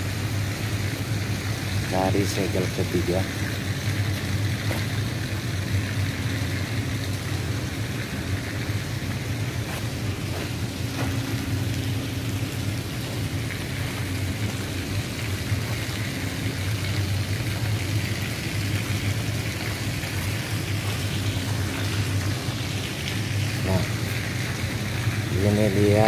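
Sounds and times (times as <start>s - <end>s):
constant hiss: 0.0s - 26.0s
ship machinery drone: 0.0s - 26.0s.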